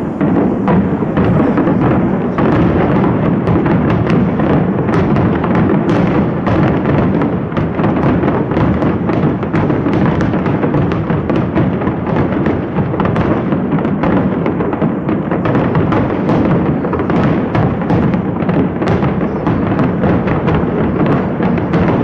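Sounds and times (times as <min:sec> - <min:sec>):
fireworks booming and crackling: 0:00.0 - 0:22.0.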